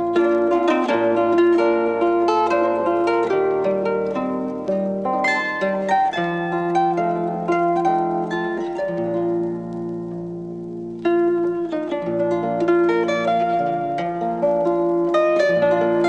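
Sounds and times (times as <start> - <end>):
zither melody: 0.0 - 16.0.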